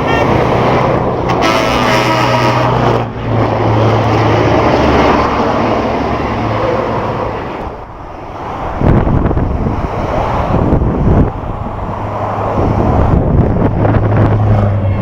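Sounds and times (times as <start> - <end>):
road noise: 0.0 - 15.0
wind buffeting microphone: 2.4 - 15.0.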